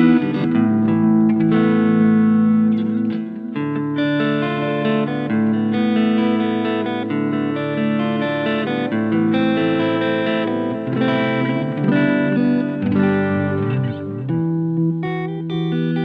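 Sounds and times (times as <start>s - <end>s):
electric guitar chords and notes: 0.0s - 16.0s.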